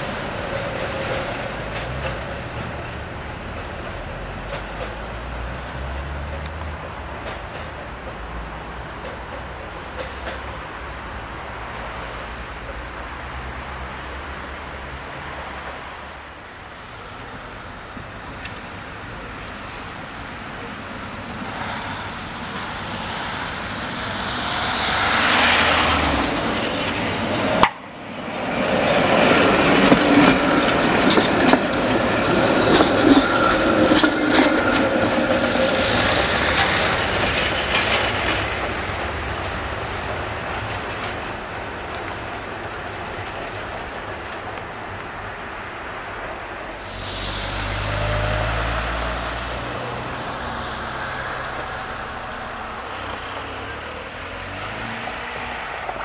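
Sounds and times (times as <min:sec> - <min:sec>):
tram wheels clattering over rail joints: 0:00.0 - 0:15.6, 0:16.3 - 0:56.0
faint tram whine: 0:00.0 - 0:56.0
tram rumbling: 0:00.0 - 0:56.0.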